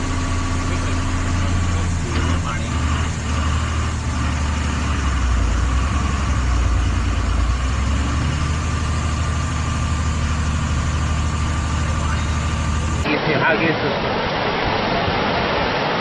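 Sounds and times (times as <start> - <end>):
vehicle engine idling: 0.0 - 13.2
continuous rushing noise: 0.0 - 16.0.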